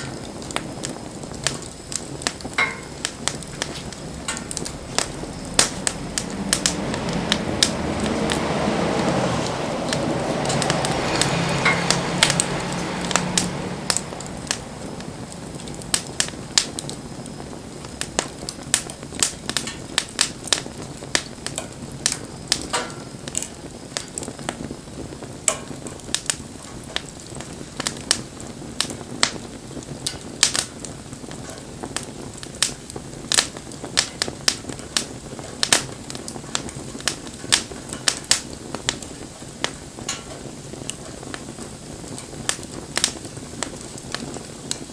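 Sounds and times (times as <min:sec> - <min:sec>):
fire hissing: 0:00.0 - 0:44.9
wood fire crackling and popping: 0:00.0 - 0:44.9.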